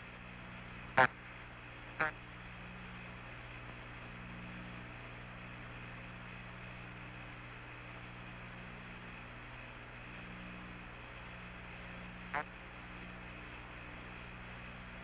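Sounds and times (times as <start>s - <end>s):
radio hiss and hum: 0.0s - 15.0s.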